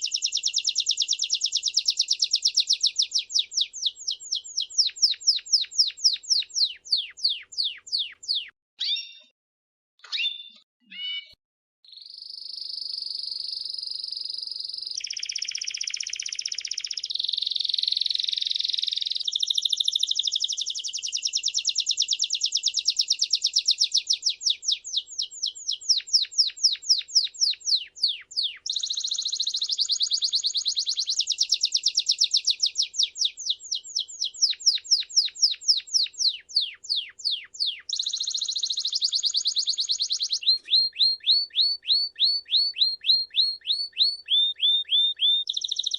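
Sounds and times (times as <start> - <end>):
songbird singing buzzy trills: 0.0 - 9.3, 10.0 - 45.9.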